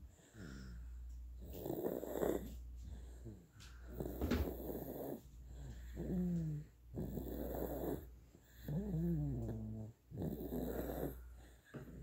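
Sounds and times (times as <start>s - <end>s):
baby snoring: 1.4s - 2.6s, 3.2s - 12.0s.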